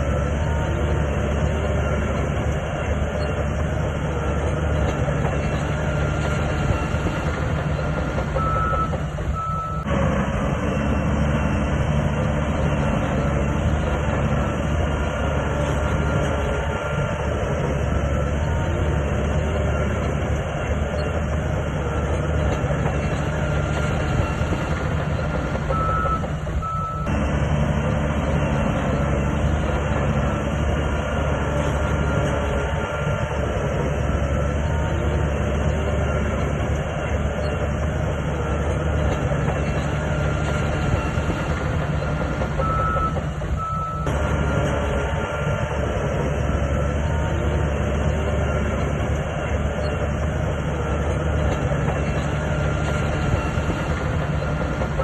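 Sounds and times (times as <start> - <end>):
bulldozer diesel engine: 0.0 - 55.0
steel tracks clanking: 0.0 - 55.0.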